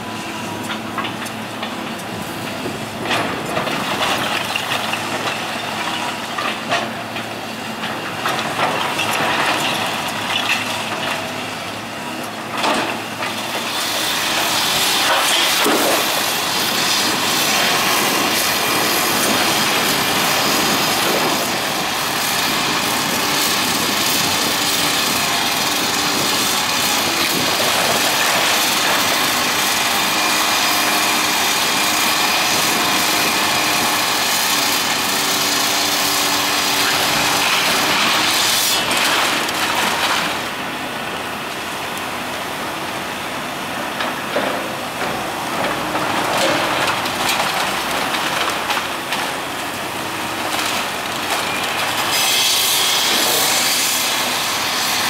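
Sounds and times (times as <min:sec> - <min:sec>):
excavator engine running: 0:00.0 - 0:53.6.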